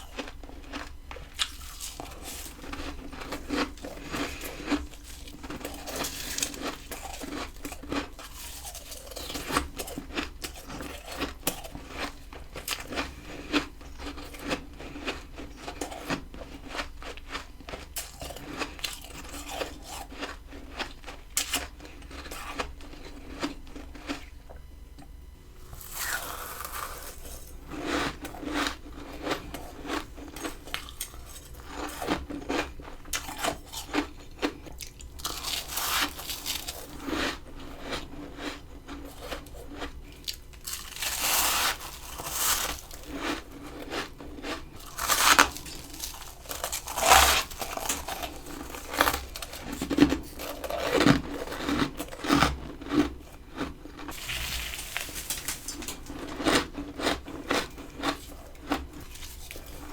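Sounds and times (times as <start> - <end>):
crunching frost: 0.1 - 17.4, 25.6 - 34.6, 35.2 - 59.9.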